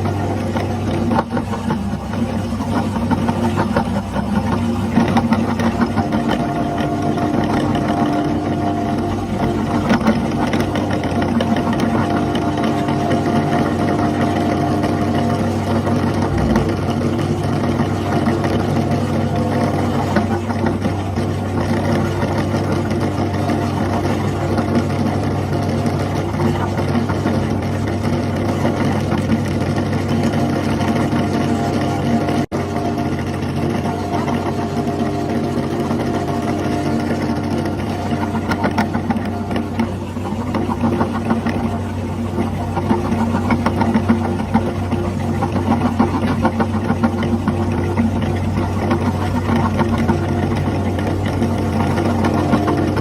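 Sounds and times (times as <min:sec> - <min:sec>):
electric meat grinder running: 0:00.0 - 0:53.0.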